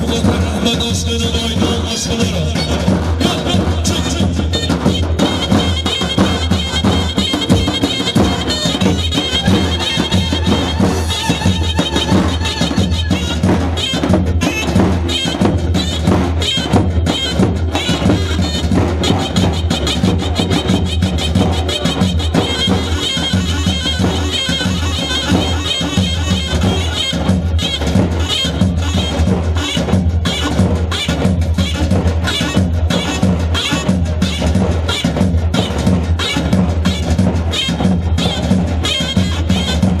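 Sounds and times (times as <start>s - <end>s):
folk dance music: 0.0s - 40.0s
steady drum beat: 0.0s - 40.0s
shrill reedy wind instrument melody: 2.5s - 40.0s.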